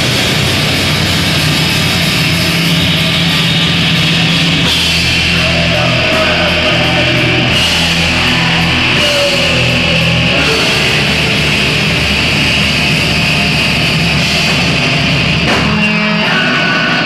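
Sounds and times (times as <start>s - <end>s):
black metal band playing: 0.0s - 17.0s
distorted guitars: 0.0s - 17.0s.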